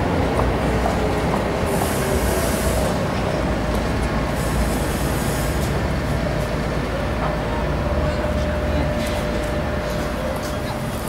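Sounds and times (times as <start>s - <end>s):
tram wheels rumbling on rail: 0.0s - 11.0s.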